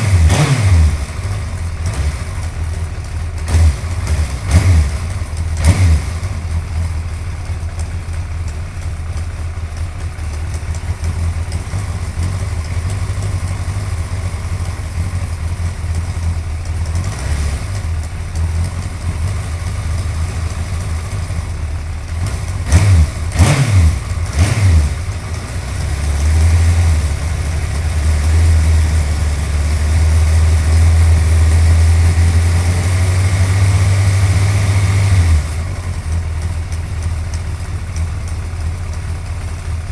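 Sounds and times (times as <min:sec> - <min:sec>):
engine throttle blips: 0:00.0 - 0:39.9
motorcycle engine idling: 0:00.0 - 0:39.9.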